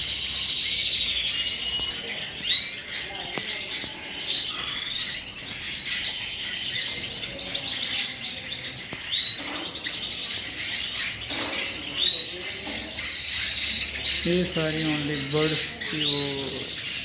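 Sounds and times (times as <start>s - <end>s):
canaries and finches chirping: 0.0s - 17.0s.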